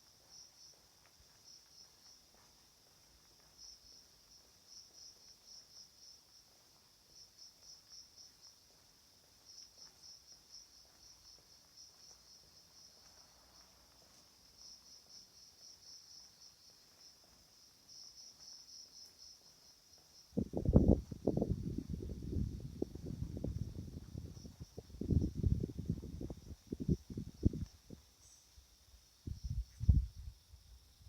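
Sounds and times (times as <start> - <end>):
faint cricket chirping: 0.0 - 31.0.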